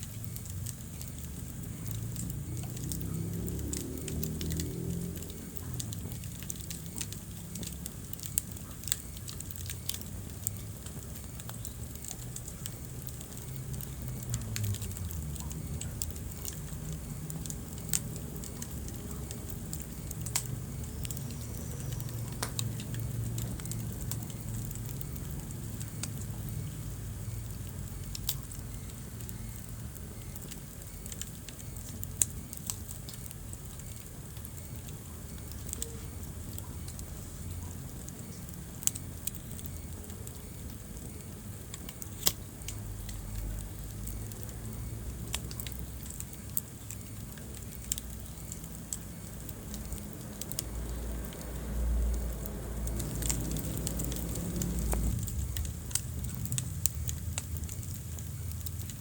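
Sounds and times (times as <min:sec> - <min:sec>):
low rumble of flame: 0:00.0 - 0:59.0
wood fire crackling and popping: 0:00.0 - 0:59.0.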